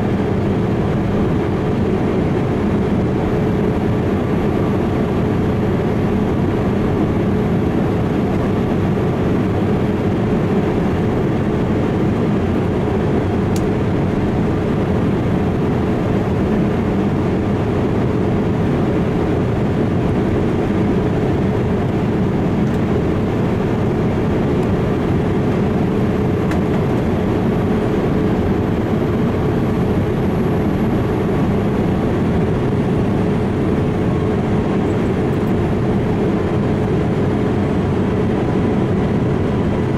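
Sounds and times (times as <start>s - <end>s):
jet airliner low rumble: 0.0s - 39.9s.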